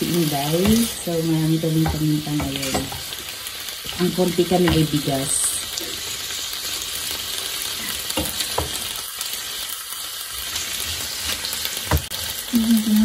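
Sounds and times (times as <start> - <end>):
meat and onion sizzling in pan: 0.0 - 13.0.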